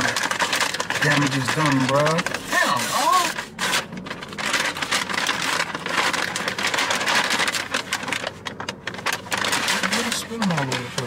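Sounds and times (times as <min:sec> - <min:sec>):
paper bag rustling and crinkling: 0:00.0 - 0:11.0.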